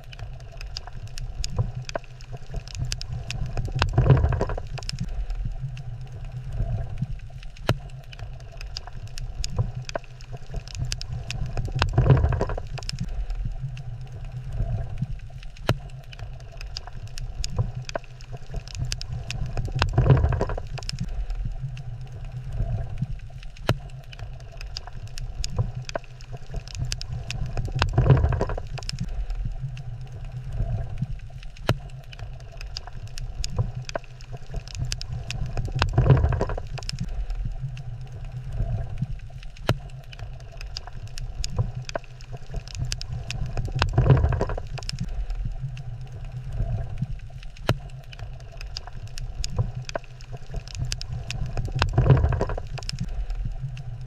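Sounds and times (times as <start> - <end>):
fine crackling clicks: 0.0 - 54.0
low underwater rumble: 0.0 - 54.0.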